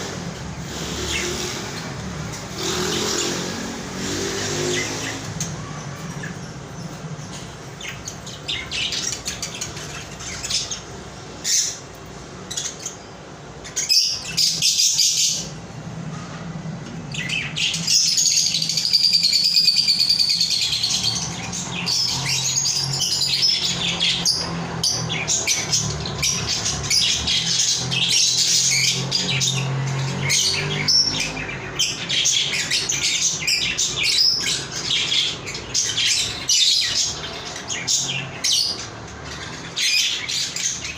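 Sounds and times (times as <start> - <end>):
parrots chirping and squawking: 0.0 - 40.9.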